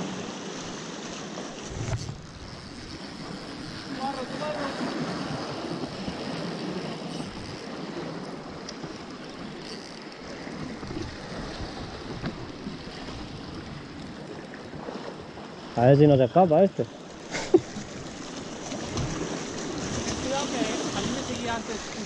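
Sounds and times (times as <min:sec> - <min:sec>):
sea water washing over rocks: 0:00.0 - 0:22.0.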